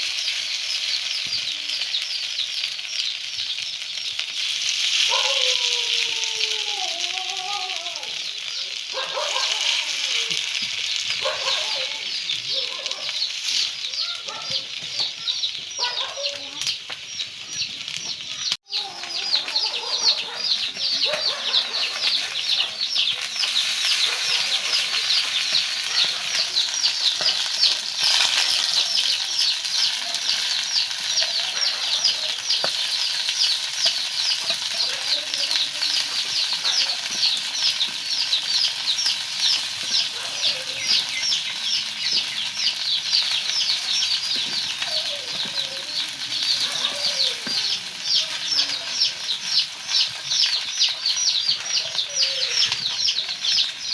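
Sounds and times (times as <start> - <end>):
oil sizzling in a pan: 0.0 - 53.9.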